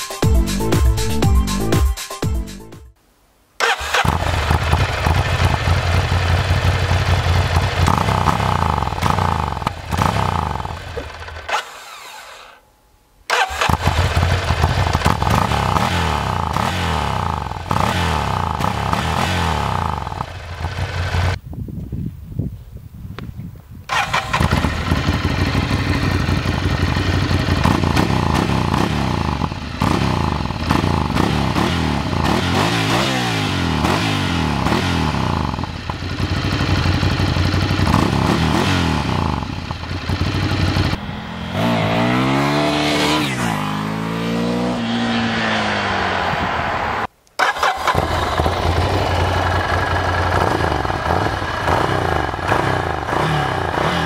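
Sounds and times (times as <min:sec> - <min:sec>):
motorcycle engine revving: 0:03.6 - 0:12.6, 0:13.3 - 0:21.4, 0:23.9 - 0:54.0.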